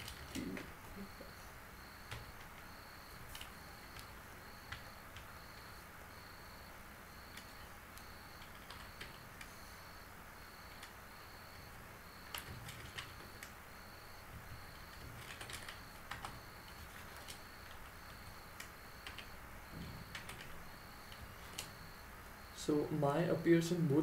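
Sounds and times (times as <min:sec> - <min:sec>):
keyboard typing: 0:00.0 - 0:22.0.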